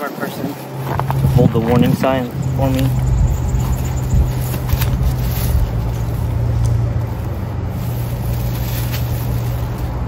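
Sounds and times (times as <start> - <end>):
wind buffeting microphone: 0.3 - 10.0
steady low hum: 0.4 - 10.0.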